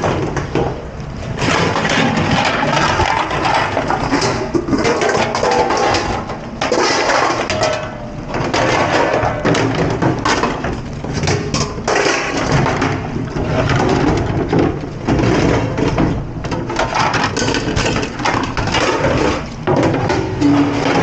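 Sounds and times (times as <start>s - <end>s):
dishes and utensils clattering: 1.4s - 21.0s.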